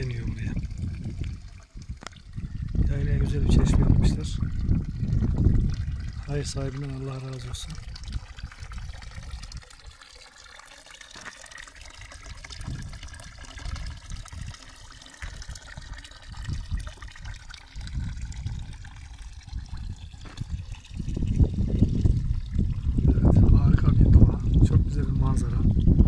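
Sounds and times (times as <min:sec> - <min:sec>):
wind rumble on microphone: 0:00.0 - 0:10.0, 0:12.2 - 0:26.0
water splashing into fountain trough: 0:00.0 - 0:26.0.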